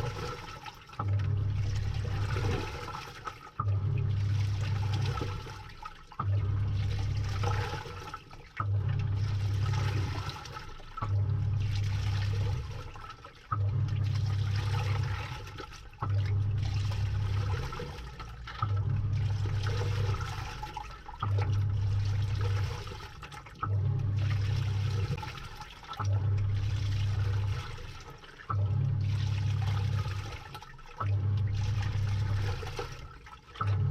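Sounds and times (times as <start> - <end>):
washing machine motor humming: 0.0 - 33.9
water sloshing: 0.0 - 33.9.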